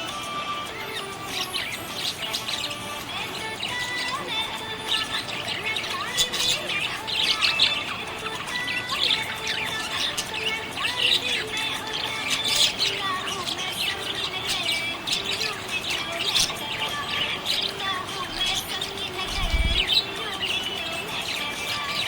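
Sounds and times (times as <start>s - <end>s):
budgerigars chirping and chattering: 0.0s - 22.0s.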